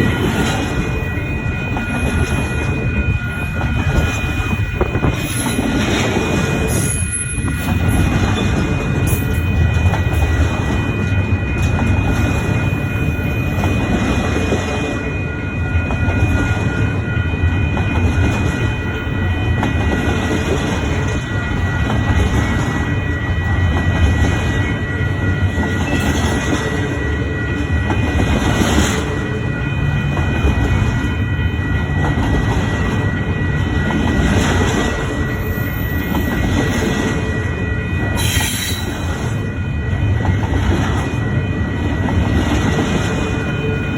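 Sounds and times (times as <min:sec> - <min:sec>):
thin high whine: 0:00.0 - 0:43.9
train wheels rumbling: 0:00.0 - 0:43.9.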